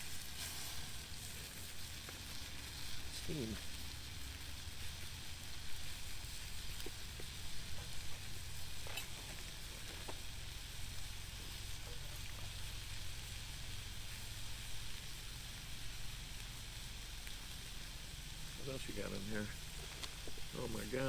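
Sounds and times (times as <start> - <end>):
hot dogs sizzling in a frying pan: 0.0 - 21.0.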